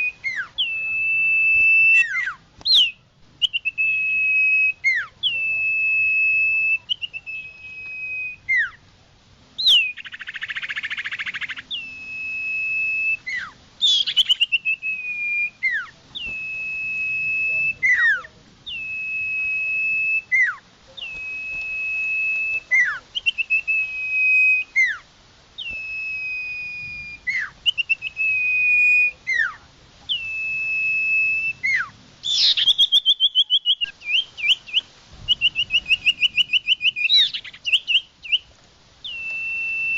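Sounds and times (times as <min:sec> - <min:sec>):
bird whistling: 0:00.0 - 0:08.8, 0:09.6 - 0:25.0, 0:25.6 - 0:39.9.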